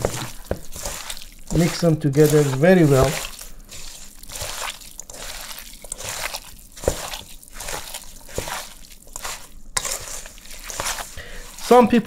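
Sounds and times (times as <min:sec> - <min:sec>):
hands squelching meat in bowl: 0:00.0 - 0:12.0.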